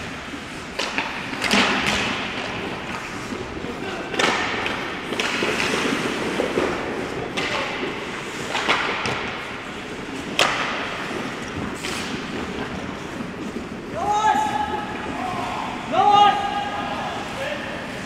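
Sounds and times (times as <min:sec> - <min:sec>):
hockey sticks and puck clacking: 0:00.0 - 0:18.0
skate blades scraping ice: 0:00.0 - 0:18.0.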